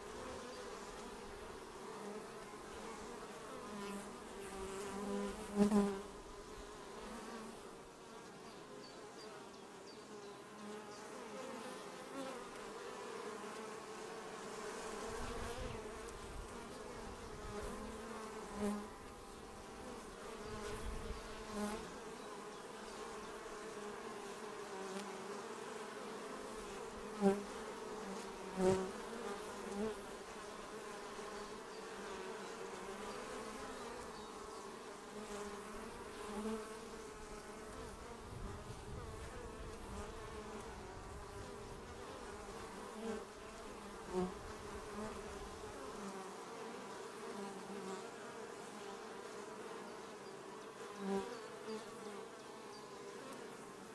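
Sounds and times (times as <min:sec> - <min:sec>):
bees buzzing: 0:00.0 - 0:53.9.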